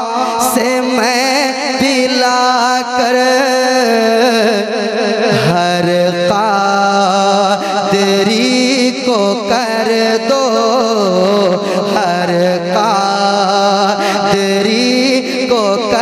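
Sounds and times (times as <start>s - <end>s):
man singing over a pa: 0.0s - 16.0s.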